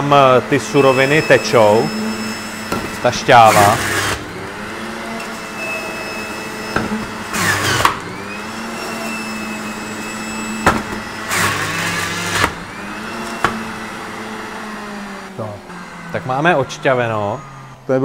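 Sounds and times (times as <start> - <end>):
juicer grinding apples: 0.0 - 18.0
juicer motor running: 0.0 - 18.0.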